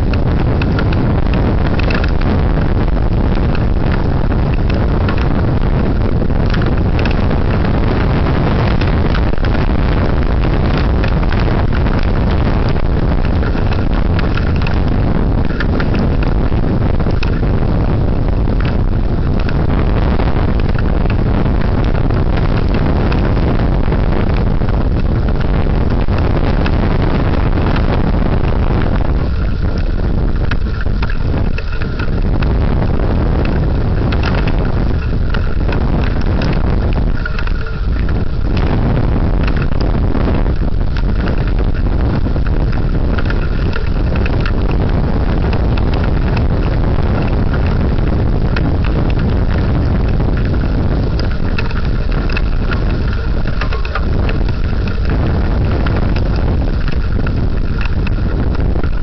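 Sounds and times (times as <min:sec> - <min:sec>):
deep thunder rumble: 0:00.0 - 0:59.0
heavy rain: 0:00.0 - 0:59.0
wind buffeting microphone: 0:00.0 - 0:59.0.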